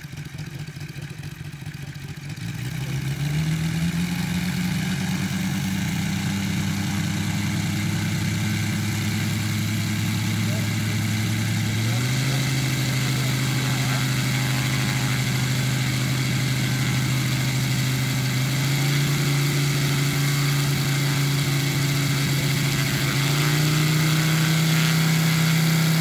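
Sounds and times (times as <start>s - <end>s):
model aircraft engine running: 0.0s - 26.0s.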